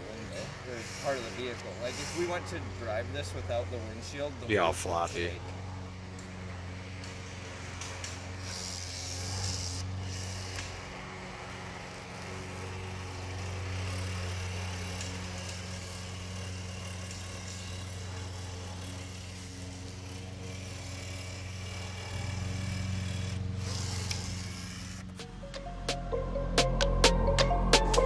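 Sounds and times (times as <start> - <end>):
caulking gun motor humming: 0.0 - 25.4.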